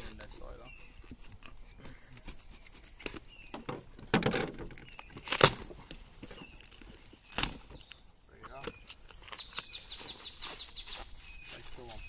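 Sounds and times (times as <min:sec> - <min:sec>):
packing tape peeling off cardboard: 0:00.0 - 0:03.5, 0:04.3 - 0:11.7
tape tearing: 0:00.0 - 0:03.5, 0:04.2 - 0:11.8
tape and cardboard crinkling: 0:00.0 - 0:12.0.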